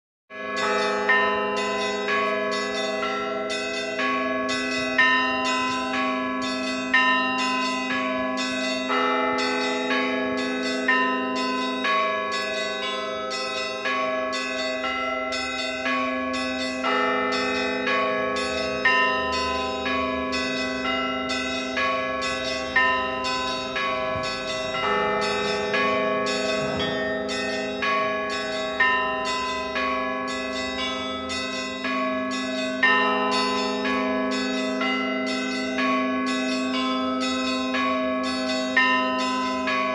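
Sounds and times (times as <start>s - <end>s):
small bells in rhythmic runs: 0.4s - 39.9s
deep bells humming: 0.5s - 39.9s.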